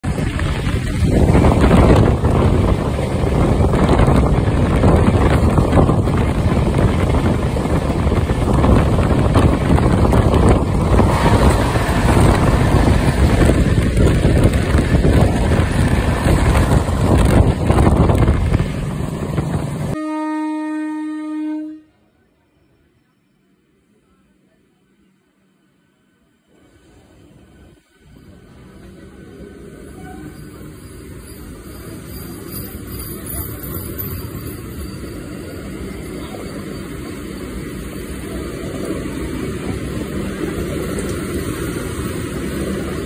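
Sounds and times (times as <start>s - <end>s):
train rushing past: 0.0s - 20.0s, 25.4s - 43.0s.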